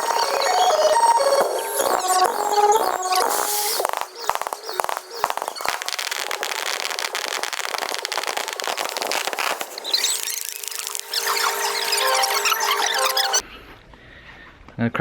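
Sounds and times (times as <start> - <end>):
fireworks crackling and popping: 0.0 - 13.4
steady tone: 0.0 - 13.4.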